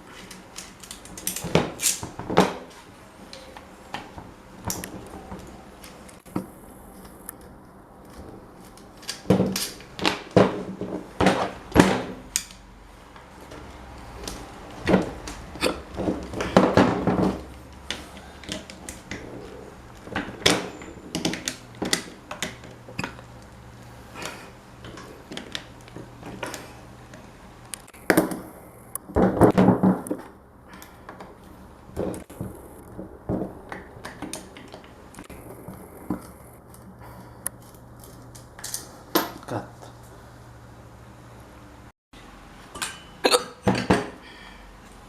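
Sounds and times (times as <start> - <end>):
tools and parts clattering: 0.0 - 6.3, 8.1 - 12.7, 13.4 - 23.4, 24.2 - 39.5, 42.7 - 44.2.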